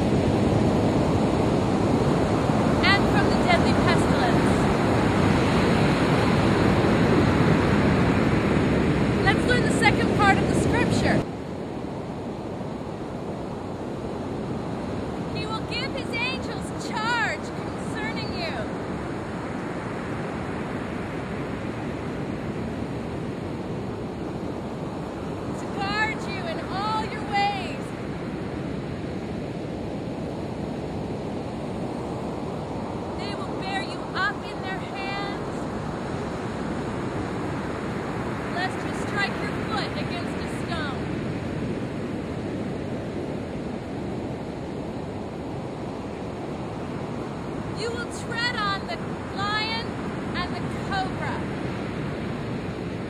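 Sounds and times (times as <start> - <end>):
ocean surf breaking: 0.0 - 53.0
wind on microphone: 0.0 - 53.0.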